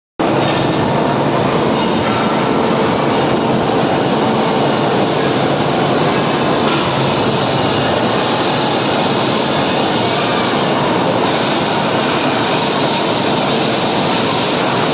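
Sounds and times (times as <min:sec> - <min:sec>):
loud steady mechanical noise: 0:00.2 - 0:14.9.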